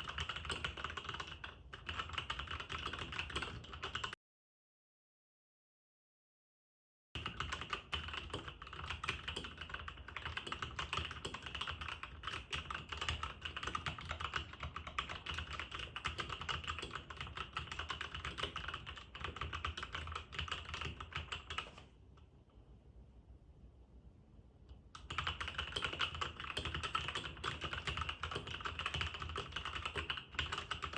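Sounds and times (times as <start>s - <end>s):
fast keyboard typing clicks: 0.0s - 4.2s, 7.2s - 21.9s, 25.0s - 30.9s.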